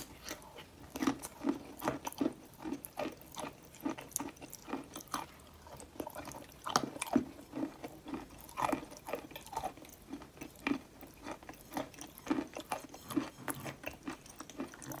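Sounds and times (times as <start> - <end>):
chewing wet clay crunches: 0.0 - 15.0.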